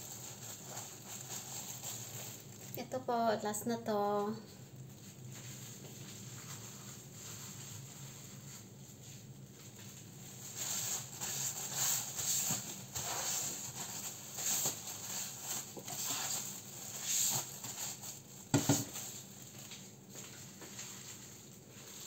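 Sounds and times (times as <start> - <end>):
plastic crinkling and rustling: 0.0 - 22.0.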